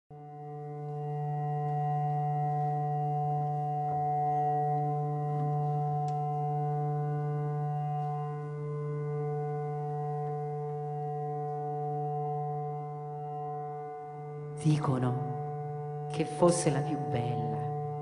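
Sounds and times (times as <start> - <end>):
sustained musical drone: 0.2 - 18.0.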